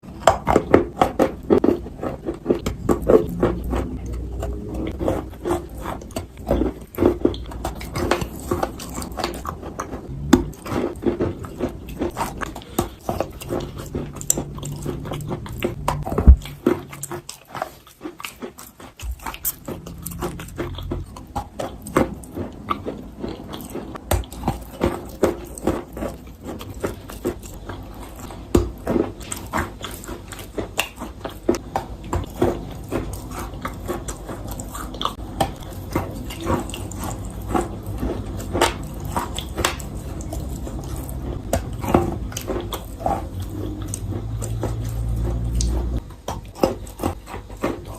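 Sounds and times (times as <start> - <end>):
chalk crunching while chewed: 0.0 - 47.9.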